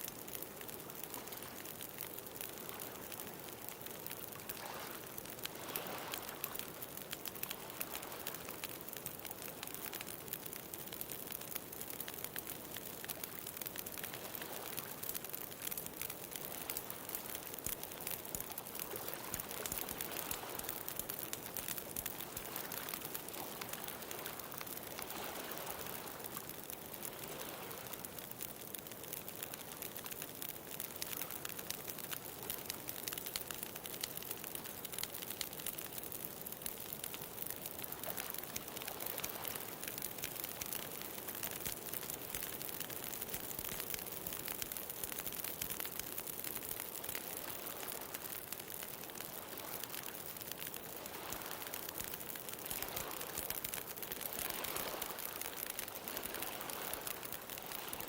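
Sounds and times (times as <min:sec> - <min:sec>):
bonfire crackling: 0:00.0 - 0:58.0.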